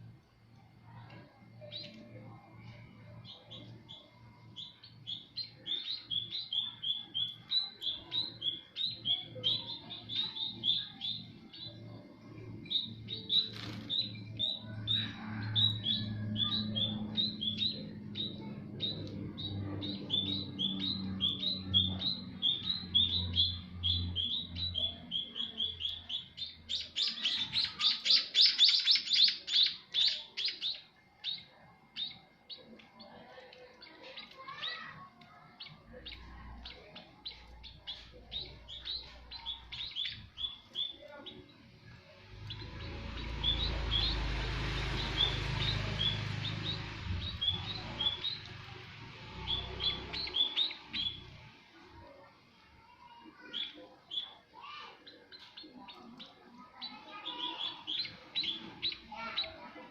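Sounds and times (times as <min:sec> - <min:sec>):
small bird chirping: 0:00.0 - 0:52.2, 0:52.8 - 0:59.9.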